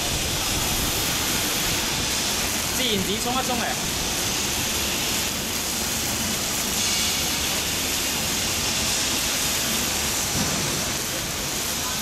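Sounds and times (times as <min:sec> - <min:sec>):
water jet spraying on metal: 0:00.0 - 0:12.0.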